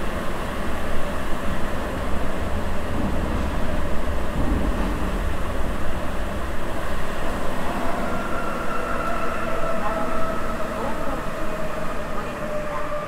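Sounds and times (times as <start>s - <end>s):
train rumble from inside car: 0.0s - 13.0s.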